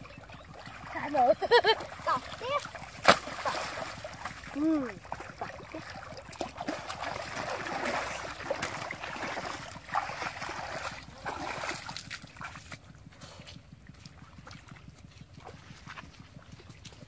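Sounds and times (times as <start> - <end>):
feet wading through muddy water: 0.0 - 17.0.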